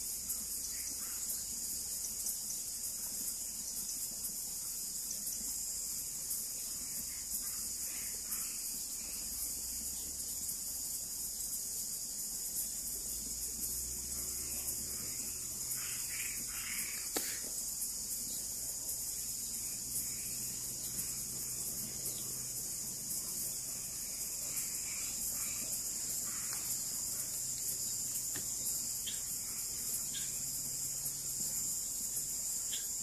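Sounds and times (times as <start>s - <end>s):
frogs calling: 0.0s - 33.0s
insects chirping: 0.0s - 33.0s.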